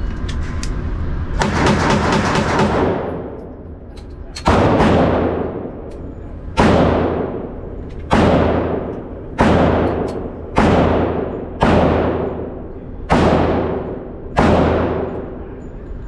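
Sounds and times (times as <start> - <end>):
ventilation hum: 0.0 - 16.0
echoing gunshots: 1.4 - 3.6, 4.4 - 15.4.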